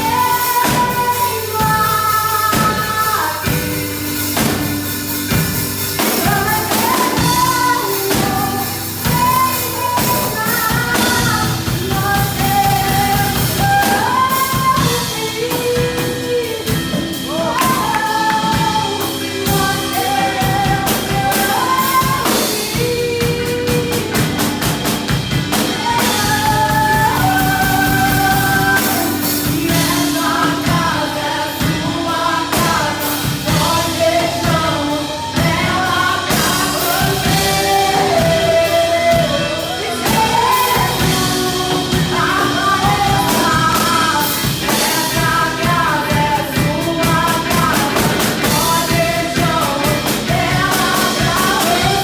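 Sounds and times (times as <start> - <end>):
voices singing: 0.0 - 52.0
worship band playing: 0.0 - 52.0.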